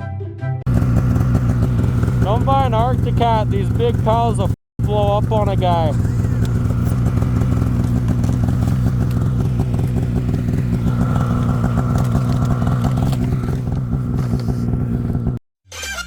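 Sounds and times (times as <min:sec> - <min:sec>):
snowmobile engine running: 0:00.7 - 0:15.4.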